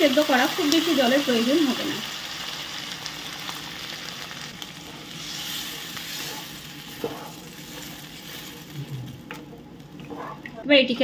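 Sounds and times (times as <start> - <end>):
food sizzling and bubbling in wok: 0.0 - 11.0.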